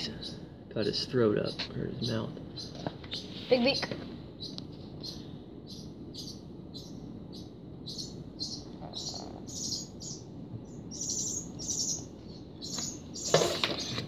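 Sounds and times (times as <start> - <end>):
bird nestling begging chirps: 0.0 - 14.0.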